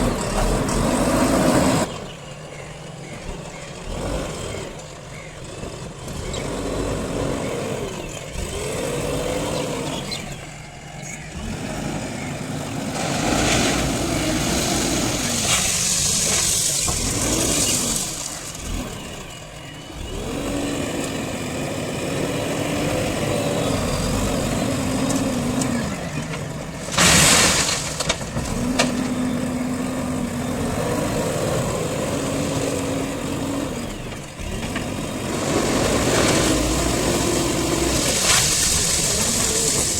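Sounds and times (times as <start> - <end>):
diesel engine under changing load: 0.0 - 39.9.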